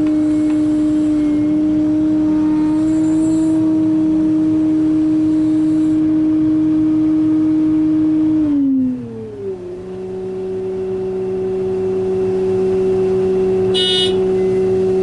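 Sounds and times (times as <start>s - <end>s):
diesel machinery drone: 0.0s - 15.0s.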